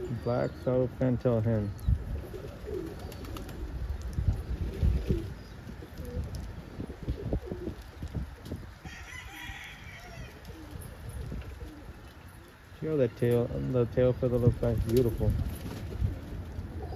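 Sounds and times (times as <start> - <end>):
pigeons cooing: 0.0 - 16.9.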